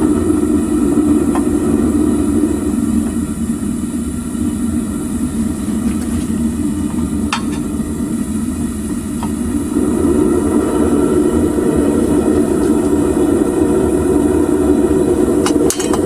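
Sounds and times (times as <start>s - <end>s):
burner flame roaring: 0.0s - 16.0s.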